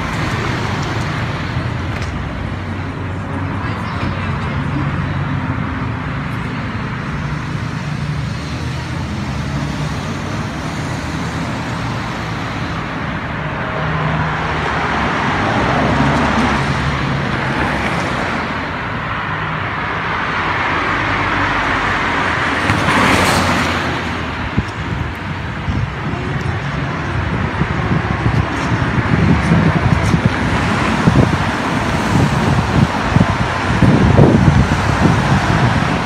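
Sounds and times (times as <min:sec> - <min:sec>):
cars passing on road: 0:00.0 - 0:36.0.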